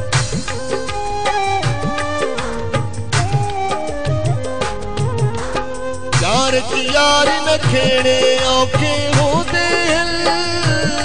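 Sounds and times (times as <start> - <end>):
folk melody line: 0.0 - 11.0
steady drum beat: 0.0 - 11.0.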